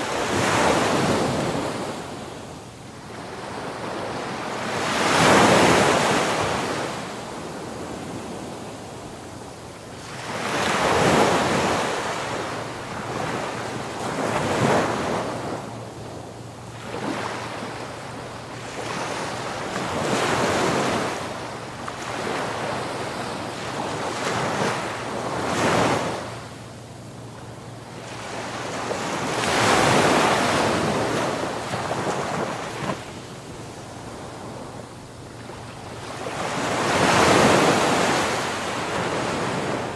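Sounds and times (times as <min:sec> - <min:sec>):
waves washing in: 0:00.0 - 0:39.9.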